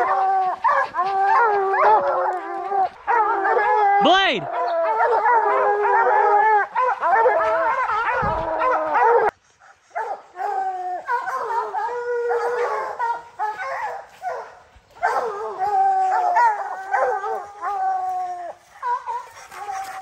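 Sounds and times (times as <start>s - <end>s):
hounds baying and howling: 0.0s - 20.0s.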